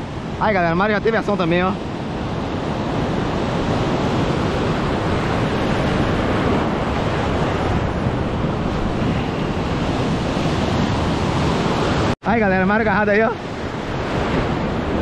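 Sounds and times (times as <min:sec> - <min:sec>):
wind buffeting microphone: 0:00.0 - 0:12.2, 0:13.2 - 0:15.0
ocean surf breaking on rocks: 0:00.0 - 0:15.0.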